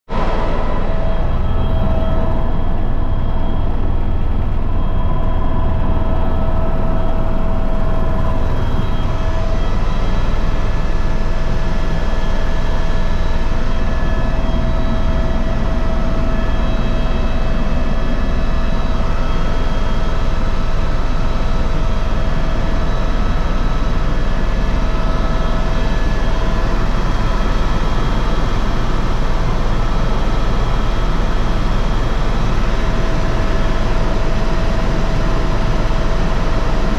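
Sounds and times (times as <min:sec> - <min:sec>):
helicopter engine and rotor drone: 0:00.1 - 0:36.9.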